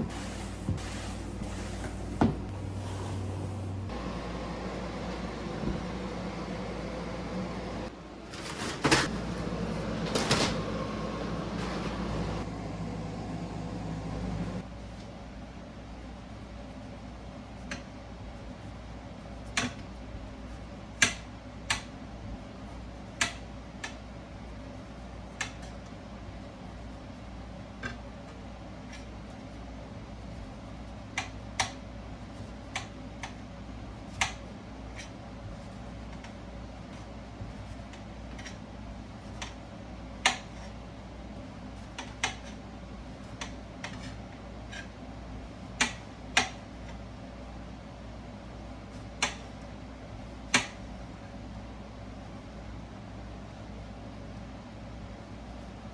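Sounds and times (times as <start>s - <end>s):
steady low hum: 0.0s - 8.3s, 9.0s - 55.9s.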